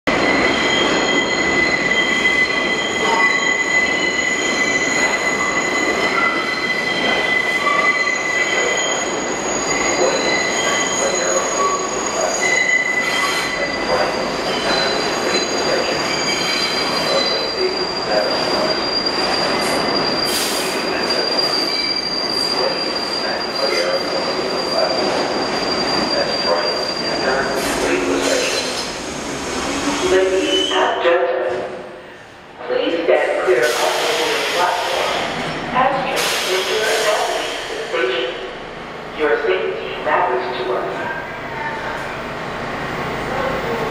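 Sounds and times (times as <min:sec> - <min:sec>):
subway train rumble: 0:00.0 - 0:43.9
train wheels screeching on rails: 0:00.1 - 0:31.0, 0:33.4 - 0:38.8.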